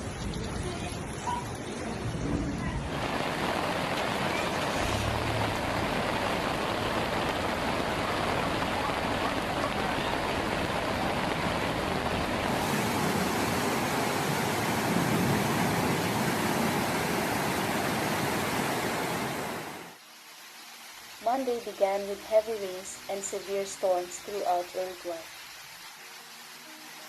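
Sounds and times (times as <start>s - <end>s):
heavy rain: 0.0s - 27.0s
running floodwater: 0.0s - 27.0s.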